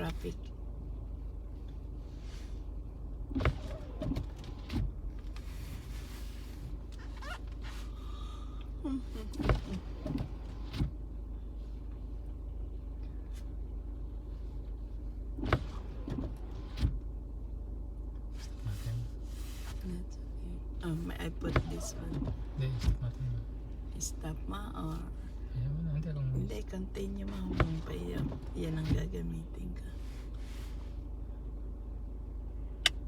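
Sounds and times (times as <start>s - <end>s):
car cabin rumble: 0.0s - 33.0s.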